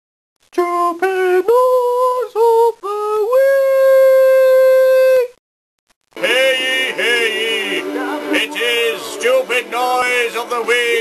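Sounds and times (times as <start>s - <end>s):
person singing unaccompanied: 0.5s - 5.4s, 6.2s - 11.0s.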